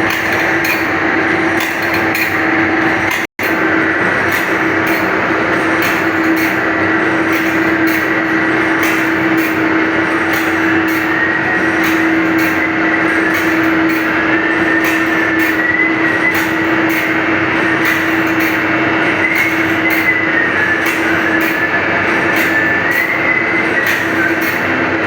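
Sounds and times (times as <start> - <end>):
grinding wheel on saw blade: 0.0 - 25.0
high whine: 0.0 - 25.0
motor hum: 0.0 - 25.0.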